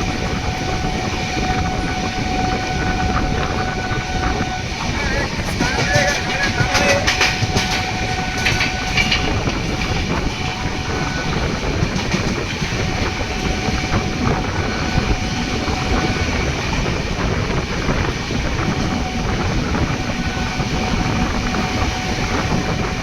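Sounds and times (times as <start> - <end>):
train rushing rumble: 0.0 - 23.0
wheel clatter over rail joints: 0.0 - 23.0.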